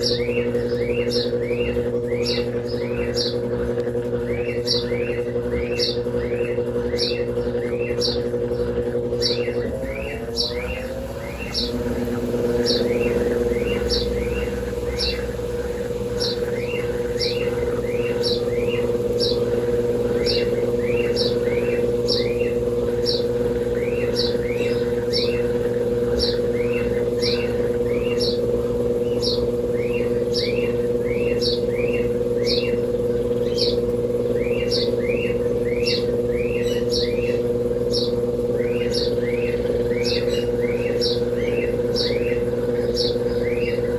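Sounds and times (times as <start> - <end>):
small bird chirping: 0.0 - 43.9
washing machine spin motor whine: 0.0 - 43.9.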